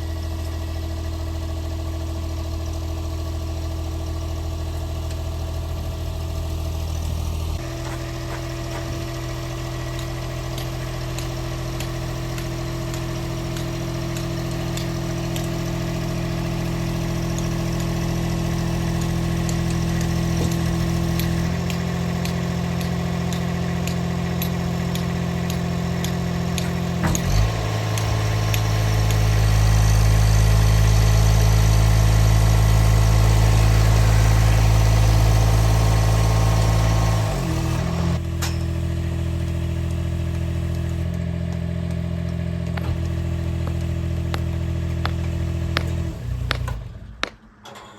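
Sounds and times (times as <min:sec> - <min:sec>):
machine engine running: 0:00.0 - 0:47.6.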